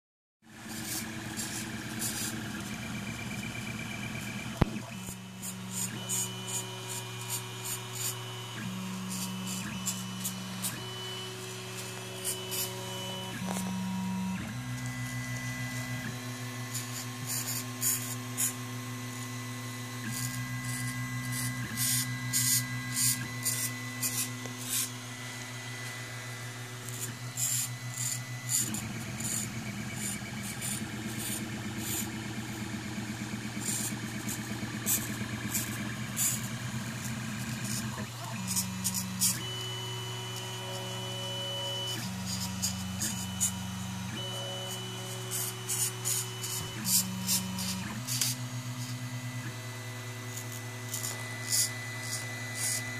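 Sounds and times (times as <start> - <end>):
stepper motors whining: 0.6 - 52.9.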